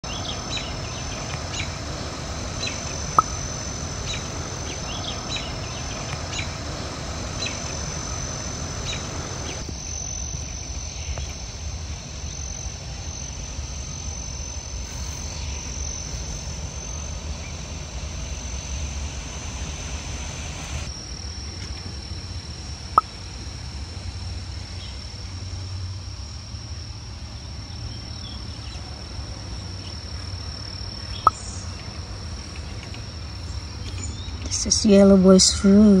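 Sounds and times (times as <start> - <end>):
insect trill: 0.0 - 36.0.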